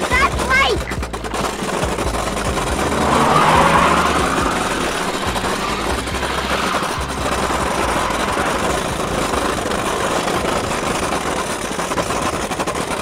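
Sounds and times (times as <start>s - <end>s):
small wheels rattling over pavers: 0.0s - 13.0s.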